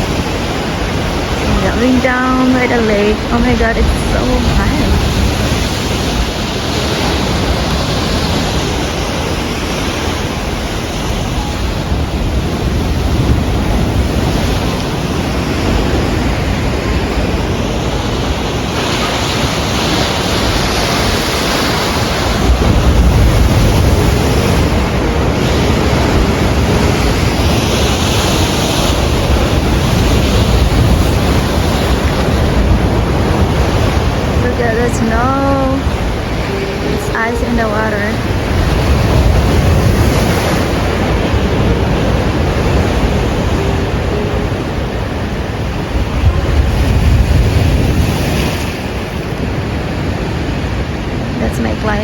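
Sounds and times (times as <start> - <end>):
waves washing against shore: 0.0 - 52.0
wind buffeting microphone: 0.0 - 52.0.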